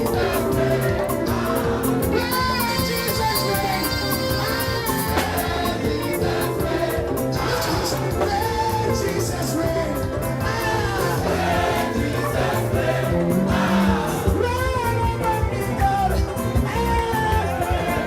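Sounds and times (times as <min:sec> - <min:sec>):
choir and congregation singing: 0:00.0 - 0:14.8, 0:17.3 - 0:18.0
live band playing: 0:00.0 - 0:18.0.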